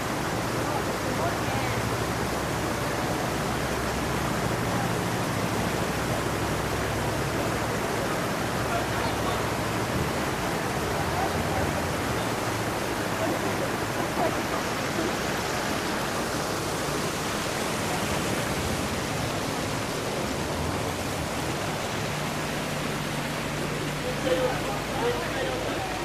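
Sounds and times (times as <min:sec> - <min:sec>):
crowd talking: 0:00.0 - 0:26.0
water cascading into pool: 0:00.0 - 0:26.0.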